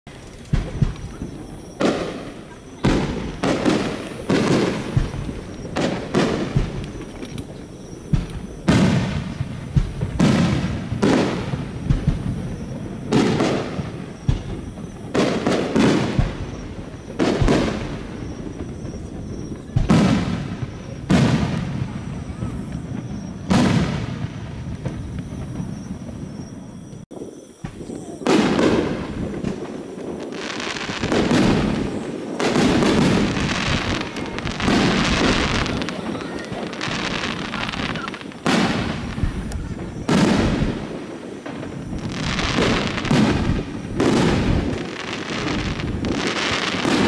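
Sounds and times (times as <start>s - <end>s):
firework shells booming: 0.1s - 47.0s.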